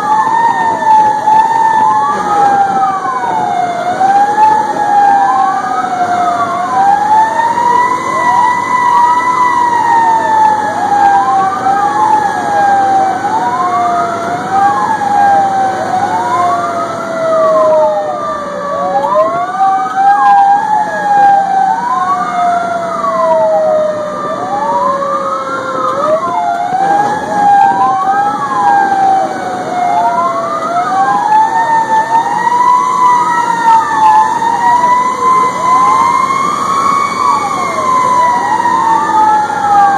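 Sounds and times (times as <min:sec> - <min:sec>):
fire engine siren wailing: 0:00.0 - 0:39.9
low engine rumble: 0:00.0 - 0:39.9.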